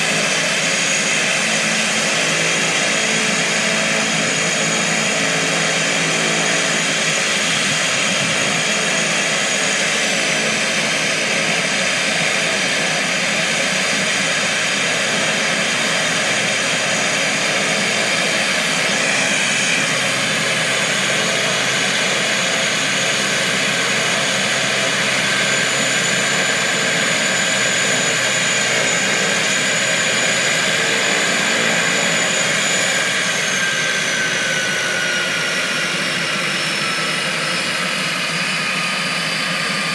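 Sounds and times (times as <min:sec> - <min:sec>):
high turbine whine: 0:00.0 - 0:39.9
turboprop engines roaring: 0:00.0 - 0:39.9.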